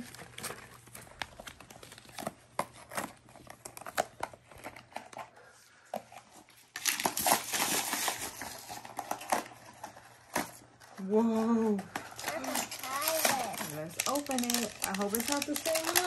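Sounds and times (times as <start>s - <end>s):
plastic wrapping crinkling and tearing: 0.0s - 5.2s, 6.1s - 16.0s.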